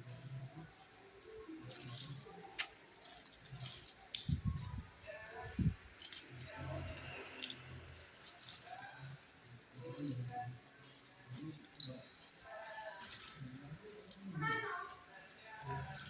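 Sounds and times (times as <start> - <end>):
faint voices: 0.0 - 16.0
parcel clicks and rustles: 0.0 - 16.0.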